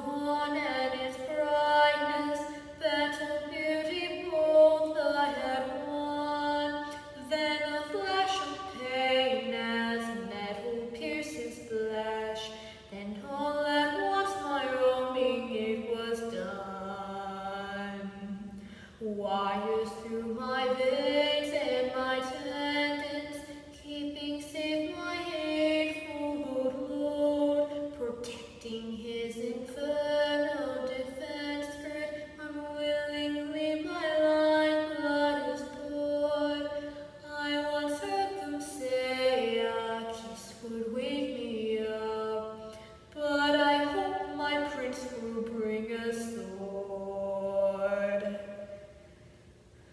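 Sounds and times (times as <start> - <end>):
woman singing a cappella: 0.0 - 49.0.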